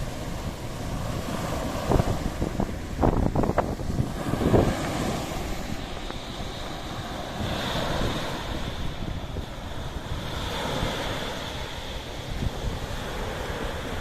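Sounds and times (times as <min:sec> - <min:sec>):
sea waves washing in: 0:00.0 - 0:14.0
wind buffeting microphone: 0:00.0 - 0:14.0.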